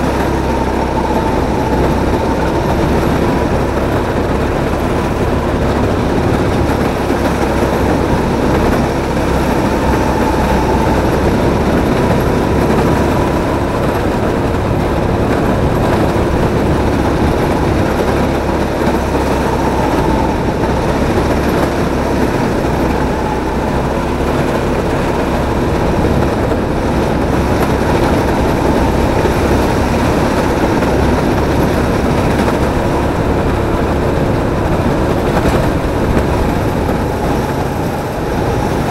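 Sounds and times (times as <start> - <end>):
kart motor and tyre drone: 0.0 - 38.9.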